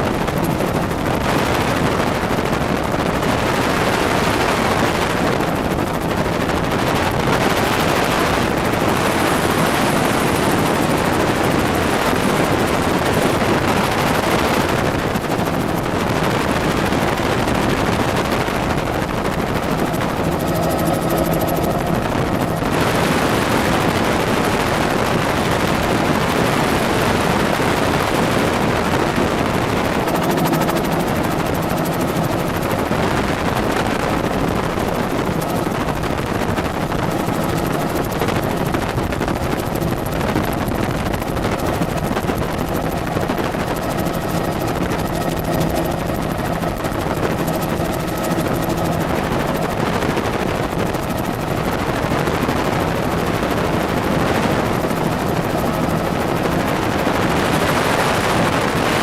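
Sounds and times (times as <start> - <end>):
helicopter rotor chopping: 0.0 - 59.0.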